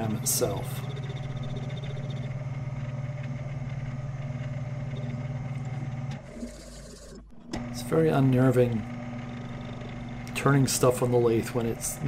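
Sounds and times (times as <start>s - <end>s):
lathe motor humming: 0.0s - 12.0s.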